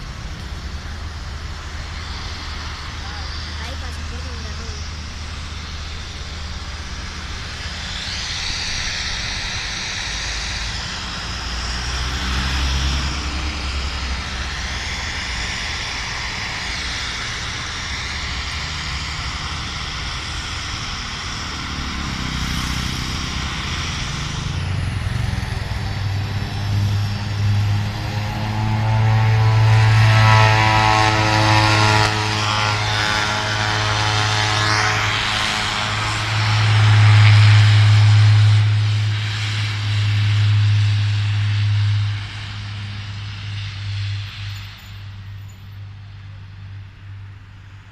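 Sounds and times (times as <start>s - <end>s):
aircraft engine drone: 0.0s - 47.9s
deeper engine drone: 0.0s - 47.9s.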